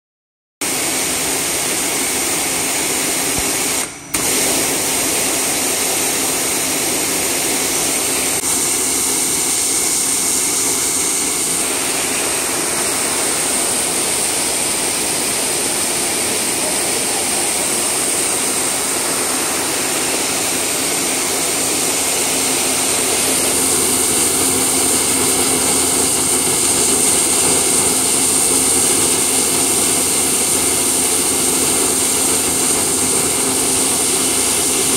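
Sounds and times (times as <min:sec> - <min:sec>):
high-pressure water jet hiss: 0:00.6 - 0:34.9
pump running: 0:00.6 - 0:34.9.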